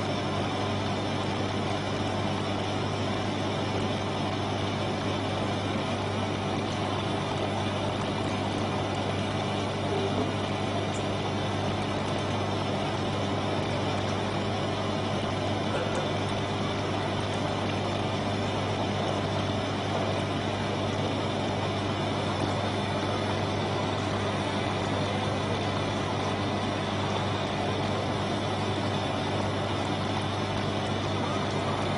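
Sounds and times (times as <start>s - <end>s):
machine hum: 0.0s - 31.9s.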